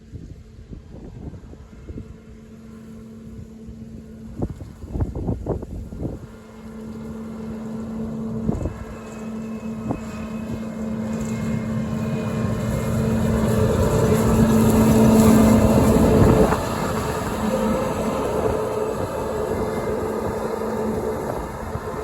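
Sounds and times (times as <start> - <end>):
combine harvester engine running: 2.4 - 22.0.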